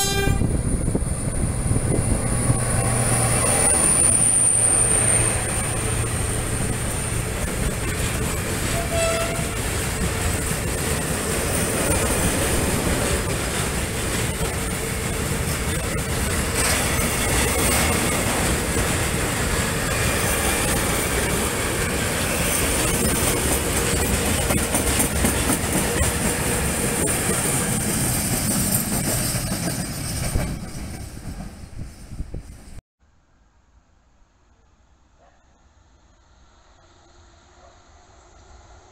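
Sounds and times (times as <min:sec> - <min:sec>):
freight train rumbling past: 0:00.0 - 0:32.8, 0:36.4 - 0:38.9.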